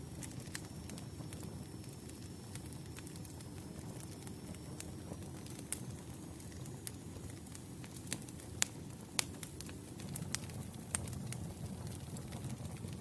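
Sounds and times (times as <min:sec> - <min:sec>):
burning logs pops and snaps: 0:00.0 - 0:13.0
campfire crackling: 0:00.0 - 0:13.0.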